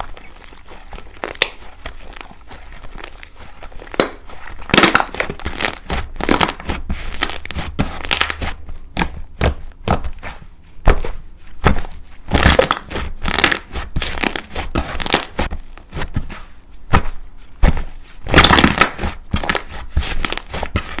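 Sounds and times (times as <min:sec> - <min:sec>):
slime crackling and crunching: 0:00.0 - 0:21.0.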